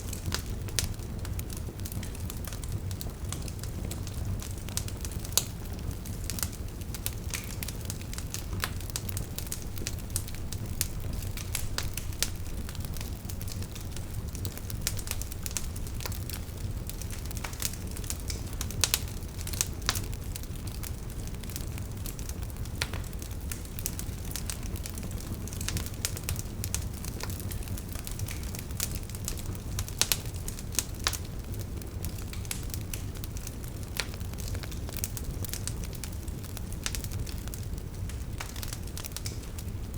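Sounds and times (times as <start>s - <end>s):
low rumble of burning logs: 0.0s - 39.9s
wood fire crackling and popping: 0.0s - 39.9s.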